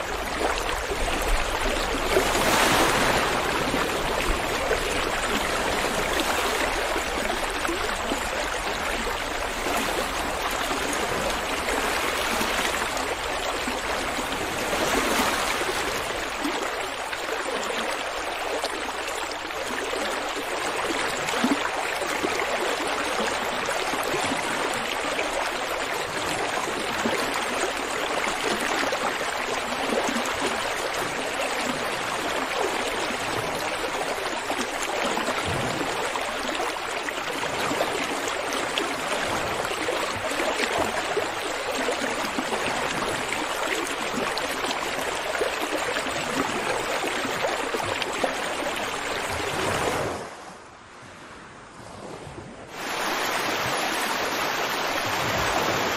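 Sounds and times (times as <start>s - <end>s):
rushing water: 0.0s - 50.7s, 51.8s - 55.9s.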